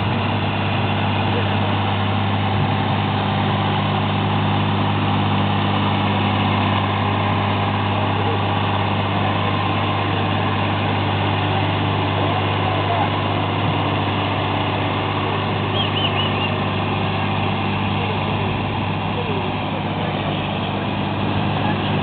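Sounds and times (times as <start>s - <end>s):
tractor diesel engine droning: 0.0s - 22.0s.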